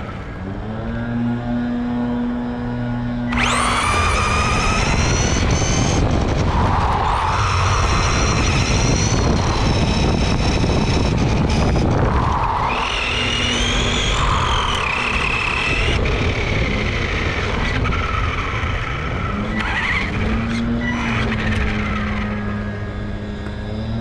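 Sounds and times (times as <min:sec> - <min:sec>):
electric motor whine: 0:00.0 - 0:24.0
toy car tyres squealing on asphalt: 0:03.3 - 0:24.0.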